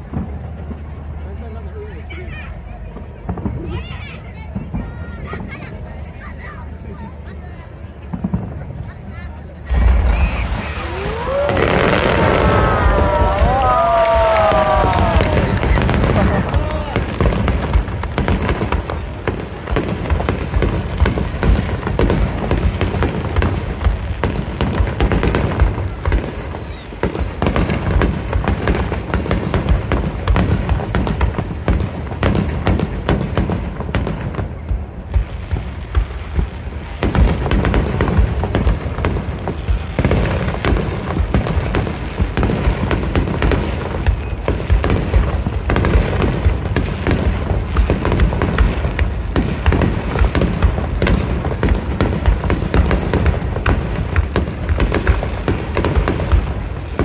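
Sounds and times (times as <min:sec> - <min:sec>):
fireworks booms and crackles: 0:00.0 - 0:57.0.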